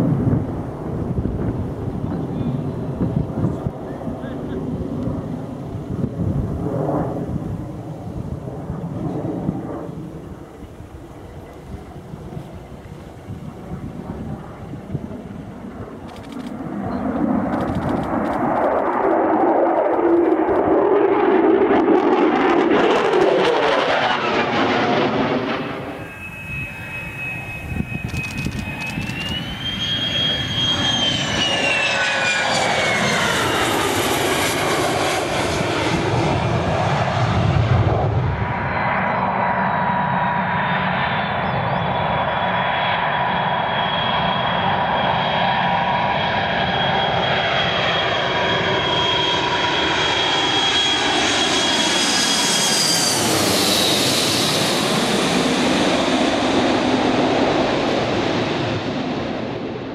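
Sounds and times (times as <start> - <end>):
jet aircraft passing: 0.0 - 59.9
turbine whine: 0.0 - 59.9.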